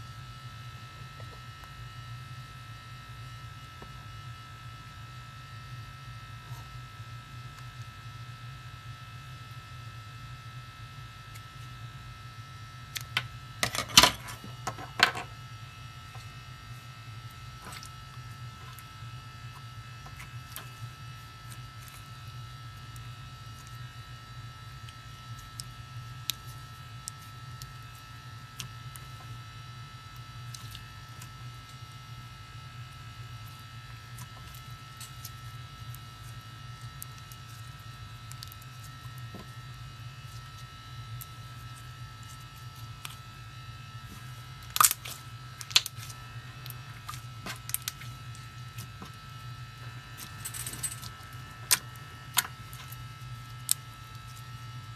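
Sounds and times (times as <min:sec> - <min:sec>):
low electrical buzz: 0:00.0 - 0:54.9.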